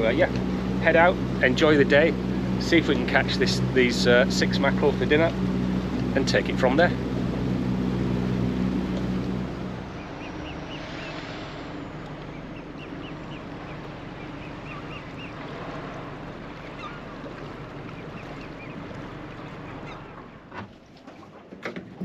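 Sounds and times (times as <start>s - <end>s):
birds chirping: 0.0s - 20.5s
small boat engine running: 0.0s - 21.4s
water rushing: 0.0s - 21.4s
wind: 0.0s - 22.0s.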